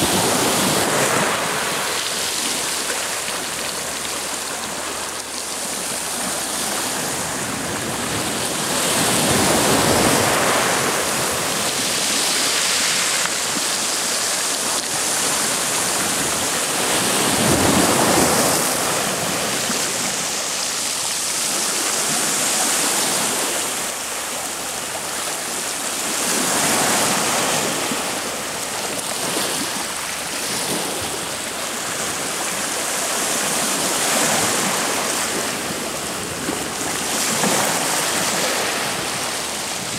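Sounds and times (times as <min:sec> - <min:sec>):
water rushing past boat: 0:00.0 - 0:39.9.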